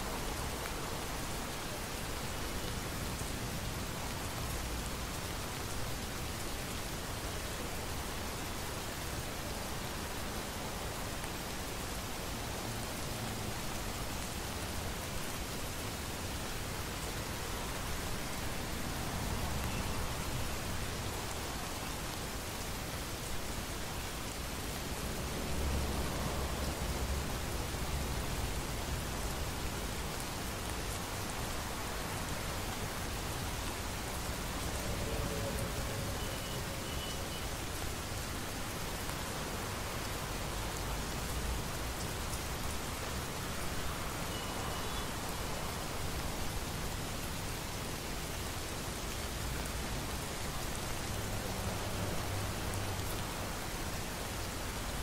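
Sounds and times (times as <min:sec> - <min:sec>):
heavy rain on hard surfaces: 0:00.0 - 0:55.0.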